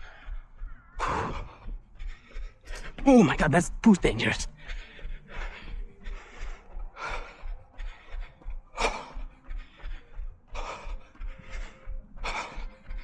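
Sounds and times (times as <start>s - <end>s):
runner breathing hard: 0.0s - 3.0s, 4.5s - 13.0s.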